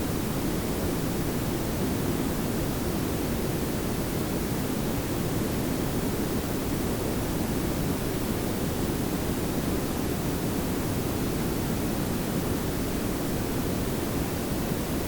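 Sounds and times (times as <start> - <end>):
steady noise hiss: 0.0 - 15.0.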